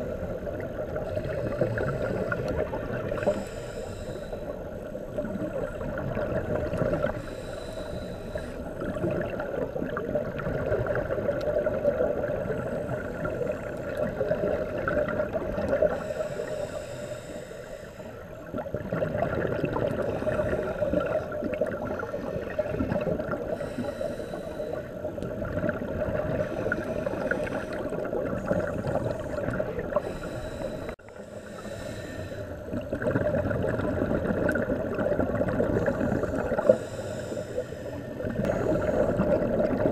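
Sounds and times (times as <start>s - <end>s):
underwater engine-like hum: 0.0s - 39.9s
underwater rushing noise: 0.0s - 39.9s.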